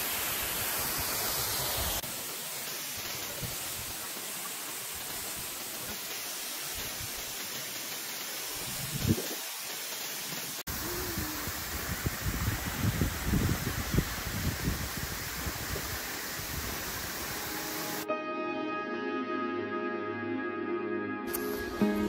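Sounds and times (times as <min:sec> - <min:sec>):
falling water rushing: 0:00.0 - 0:18.1.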